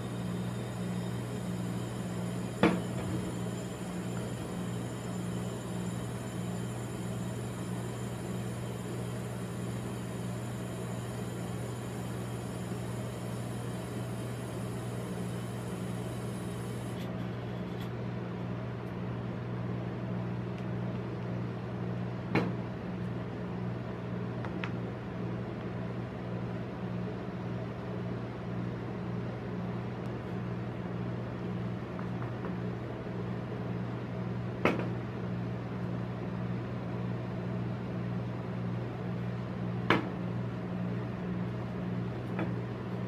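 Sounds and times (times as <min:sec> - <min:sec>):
refrigeration unit humming: 0:00.0 - 0:43.0.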